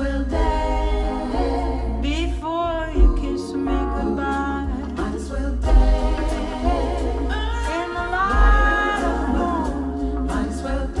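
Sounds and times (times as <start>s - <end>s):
song with deep bass and singing: 0.0s - 11.0s.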